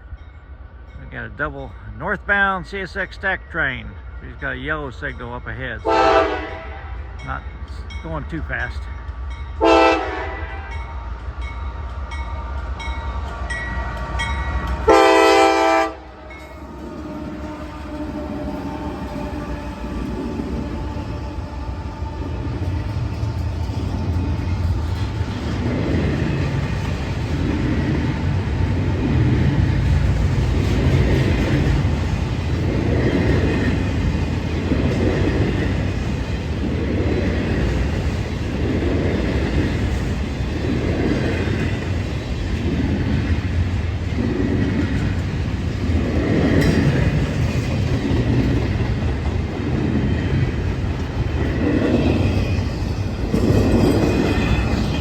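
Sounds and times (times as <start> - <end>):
low train rumble: 0.0 - 55.0
train wheels clacking on rails: 7.3 - 55.0.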